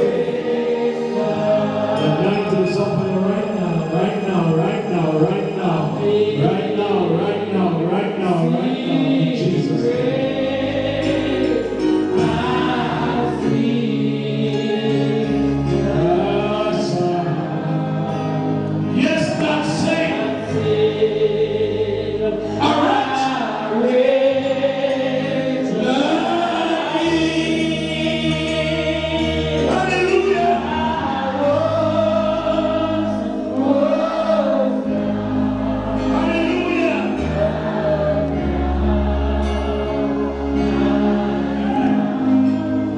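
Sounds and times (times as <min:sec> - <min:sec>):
congregation singing gospel song: 0:00.0 - 0:42.9
instrumental backing with bass line: 0:00.0 - 0:42.9.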